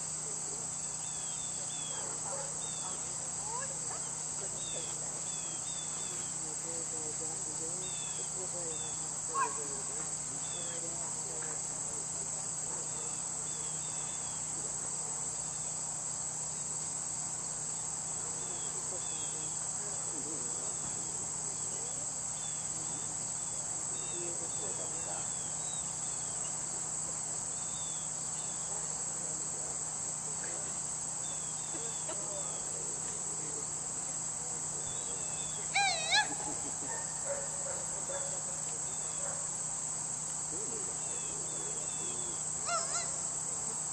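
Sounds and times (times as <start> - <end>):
crickets and insects chirring: 0.0 - 43.9.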